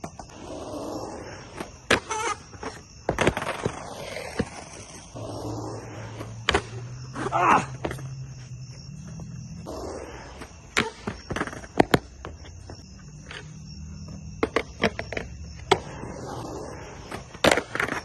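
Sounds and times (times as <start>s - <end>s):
crickets chirping: 0.0s - 18.0s
skateboard wheels rolling on concrete: 0.0s - 18.0s.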